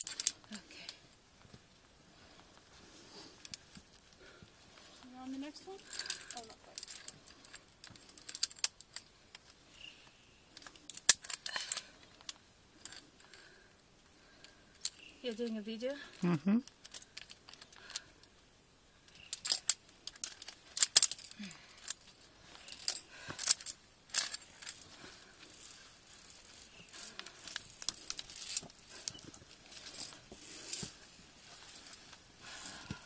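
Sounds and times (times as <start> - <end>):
carabiners clinking on steel cable: 0.0 - 1.0, 5.1 - 13.6, 14.3 - 18.4, 19.0 - 33.0.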